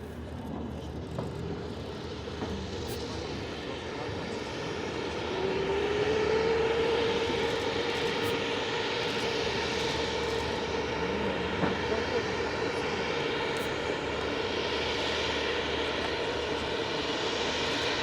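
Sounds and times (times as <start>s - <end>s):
helicopter turbine engine whine: 0.0s - 18.0s.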